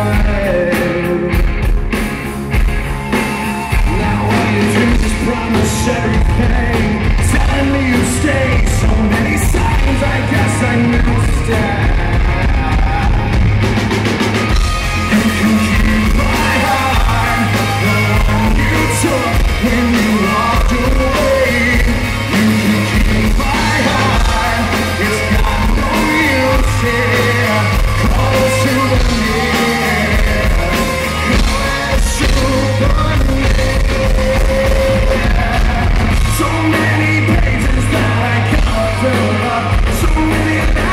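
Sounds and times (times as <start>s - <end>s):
bass guitar: 0.0s - 40.9s
distorted electric guitars: 0.0s - 40.9s
drums: 0.0s - 40.9s.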